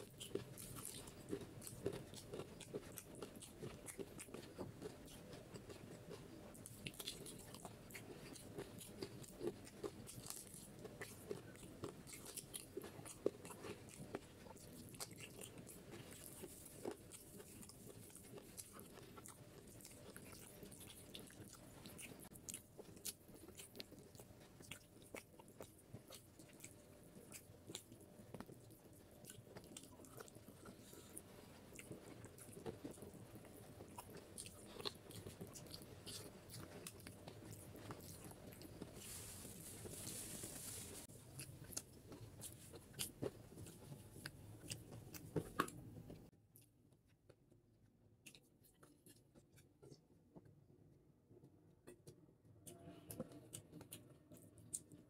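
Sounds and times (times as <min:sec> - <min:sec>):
chewing and biting food: 0:00.0 - 0:46.7, 0:48.2 - 0:50.0, 0:51.9 - 0:55.0.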